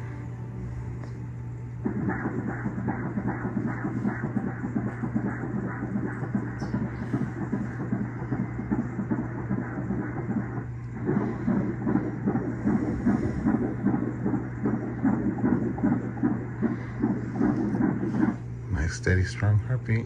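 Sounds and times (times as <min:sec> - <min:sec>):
fetal heartbeat on doppler: 0:01.6 - 0:20.0.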